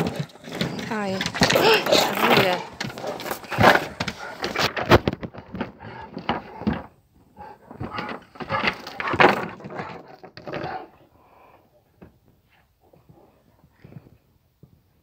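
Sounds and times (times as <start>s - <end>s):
dogs playing on wooden boards: 0.0s - 14.9s.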